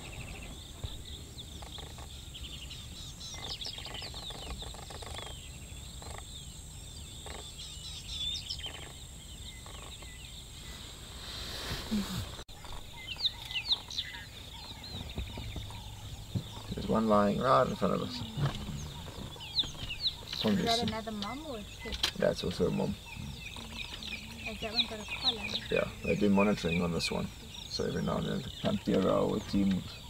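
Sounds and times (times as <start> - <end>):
birds chirping and whistling: 0.0 - 30.0
faint low rumble: 0.0 - 30.0.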